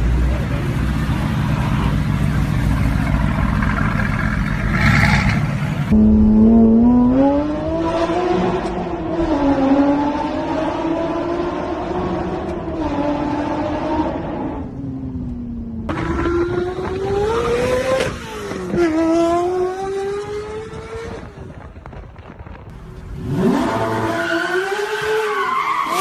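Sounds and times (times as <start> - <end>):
sports car engine rumbling: 0.0 - 24.4.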